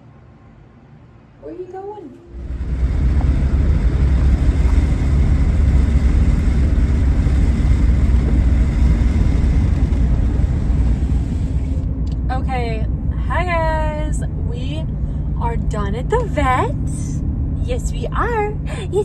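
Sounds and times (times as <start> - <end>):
car driving rumble inside vehicle: 2.3 - 19.0.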